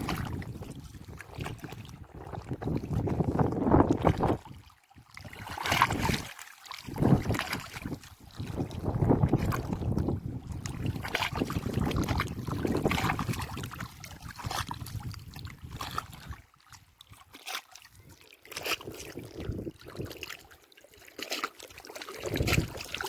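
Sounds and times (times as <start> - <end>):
wind rumbling on microphone: 0.0 - 6.3, 6.9 - 16.9, 18.7 - 20.3, 22.2 - 23.0
water splashing and lapping: 0.0 - 23.0.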